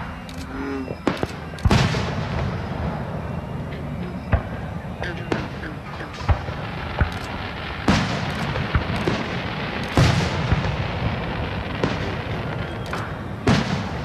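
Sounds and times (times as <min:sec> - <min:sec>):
firework crackling: 0:00.0 - 0:14.0
firework shell booms: 0:01.0 - 0:03.2, 0:04.3 - 0:14.0.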